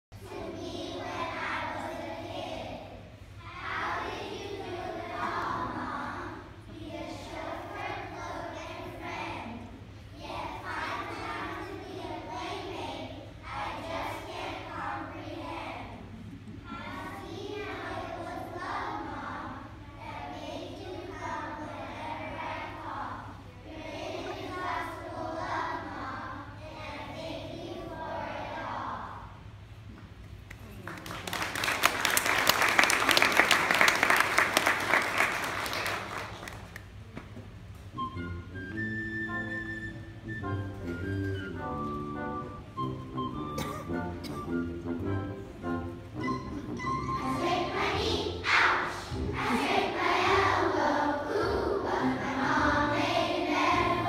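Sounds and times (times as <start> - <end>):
children's choir singing: 0.2 - 29.5, 39.2 - 54.0.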